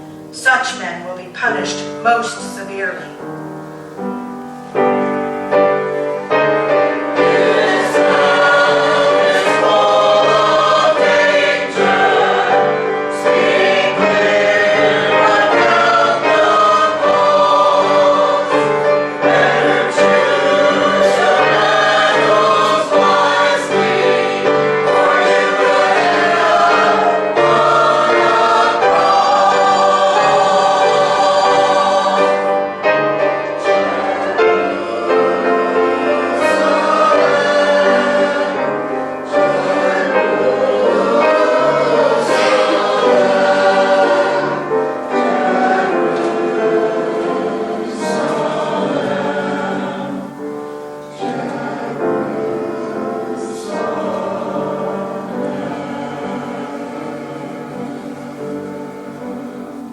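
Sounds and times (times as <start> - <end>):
choir singing: 0.0 - 59.9
piano accompaniment: 0.0 - 59.9.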